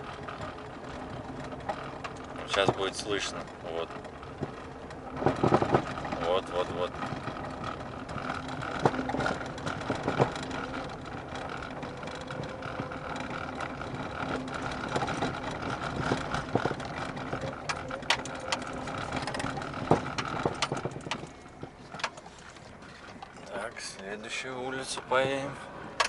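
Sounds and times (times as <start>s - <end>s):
car engine and road noise: 0.0s - 26.0s
suspension knocks: 0.0s - 26.0s.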